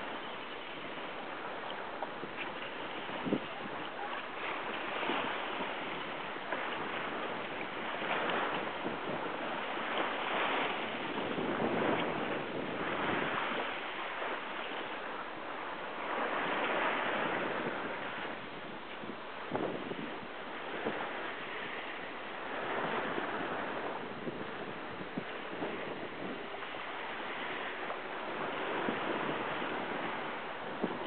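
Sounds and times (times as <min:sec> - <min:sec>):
water rushing along boat hull: 0:00.0 - 0:31.0
wind: 0:00.0 - 0:31.0.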